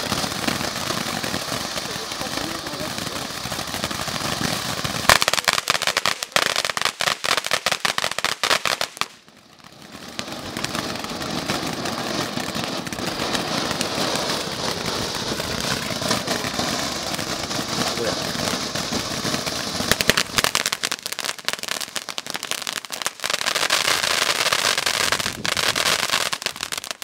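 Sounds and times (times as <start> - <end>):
firework crackling pops: 0.0 - 27.0.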